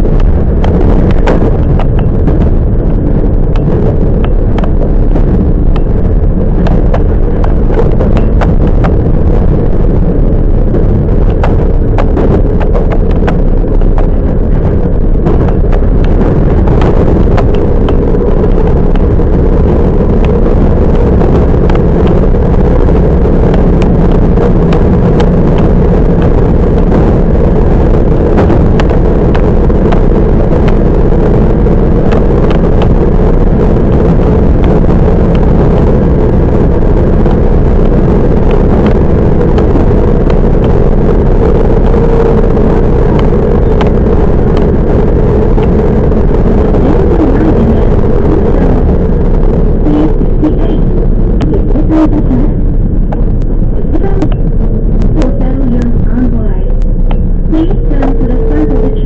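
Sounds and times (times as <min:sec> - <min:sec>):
track clicks and clacks: 0:00.0 - 0:59.0
train wheels rumbling: 0:00.0 - 0:59.0.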